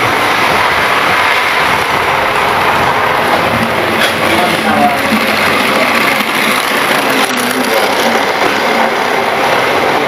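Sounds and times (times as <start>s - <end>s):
model train whirring on rails: 0.0s - 10.0s.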